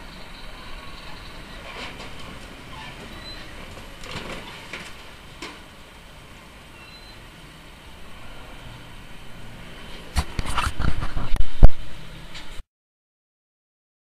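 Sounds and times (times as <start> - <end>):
road traffic noise: 0.0 - 12.6
truck banging and scraping: 0.0 - 12.6.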